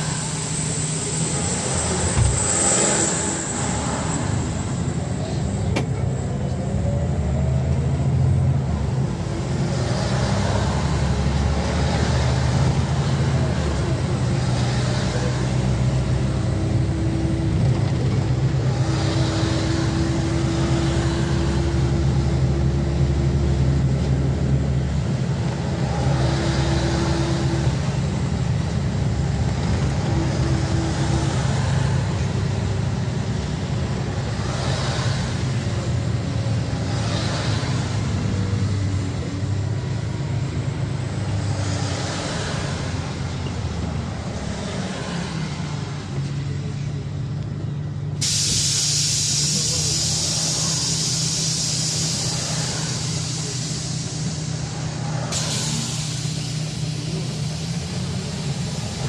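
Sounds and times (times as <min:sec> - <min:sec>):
tyres hissing on wet road: 0:00.0 - 0:06.0, 0:08.3 - 0:46.7, 0:48.1 - 0:59.0
bus engine rumble: 0:00.0 - 0:59.0
faint engine whine: 0:00.0 - 0:59.0.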